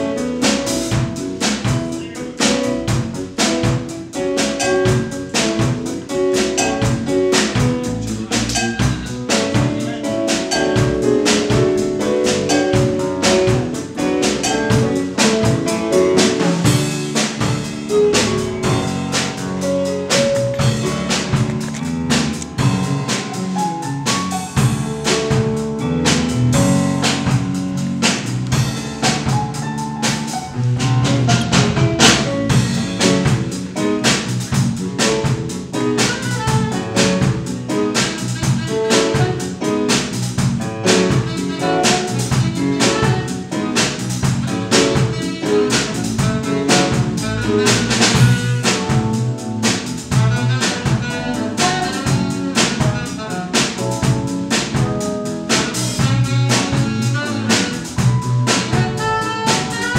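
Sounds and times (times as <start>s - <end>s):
drum kit beat: 0.0s - 59.9s
electric bass line: 0.0s - 59.9s
electric keyboard: 0.0s - 59.9s.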